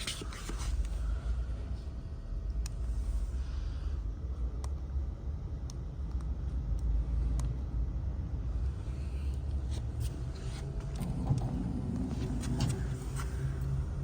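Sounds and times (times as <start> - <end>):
faint hum: 0.0 - 14.0
low rumble: 0.8 - 14.0.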